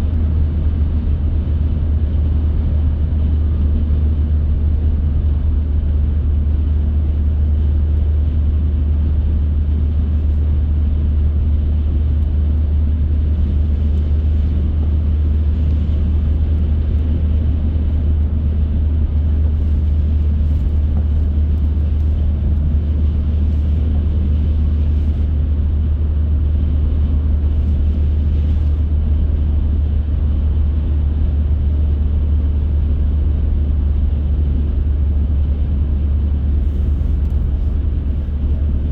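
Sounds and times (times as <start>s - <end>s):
car engine and tyre road noise: 0.0s - 38.9s.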